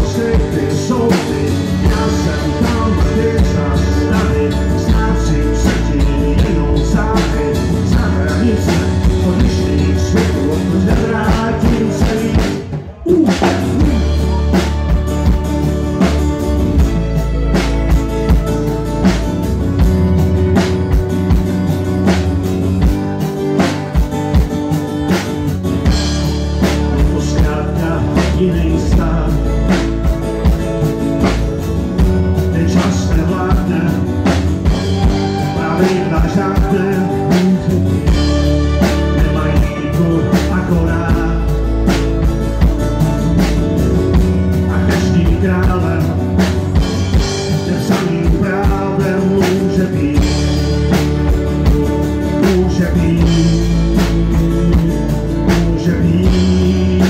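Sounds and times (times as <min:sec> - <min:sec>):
man singing: 0:00.0 - 0:22.2, 0:25.8 - 0:57.0
acoustic guitar: 0:00.0 - 0:57.0
drum kit: 0:00.0 - 0:57.0
electric bass: 0:00.0 - 0:57.0.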